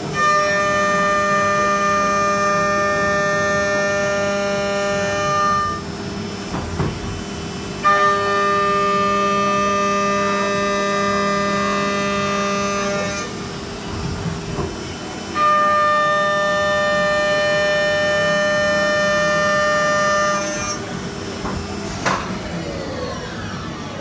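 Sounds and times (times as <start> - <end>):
milling cutter whine: 0.0 - 24.0.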